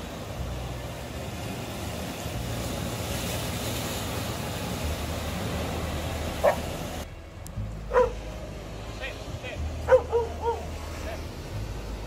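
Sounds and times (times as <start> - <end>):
sea surf: 0.0 - 12.0.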